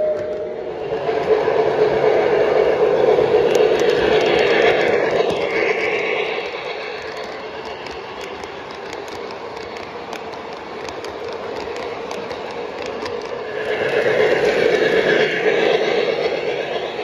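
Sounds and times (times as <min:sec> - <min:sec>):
model train rolling on track: 0:00.0 - 0:17.0
wheels clicking over rail joints: 0:00.0 - 0:17.0.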